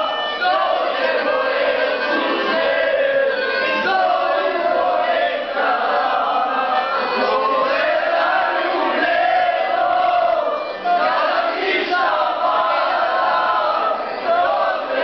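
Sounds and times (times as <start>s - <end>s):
men singing in chorus: 0.4s - 15.0s.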